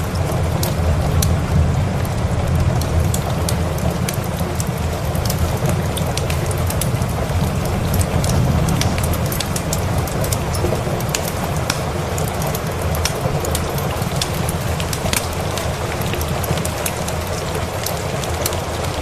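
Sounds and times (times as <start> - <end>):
heavy rain: 0.0 - 19.0
wood fire crackling: 0.0 - 19.0.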